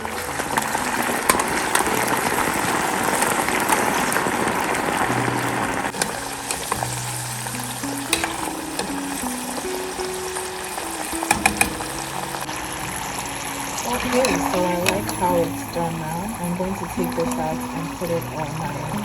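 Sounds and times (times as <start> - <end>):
food sizzling in hot oil: 0.0 - 19.0
soft background music: 0.0 - 19.0.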